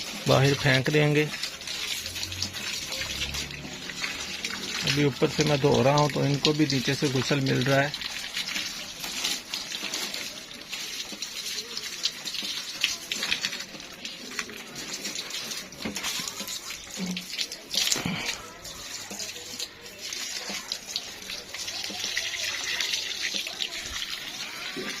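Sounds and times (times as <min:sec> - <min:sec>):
water splashing in refrigerator: 0:00.0 - 0:25.0.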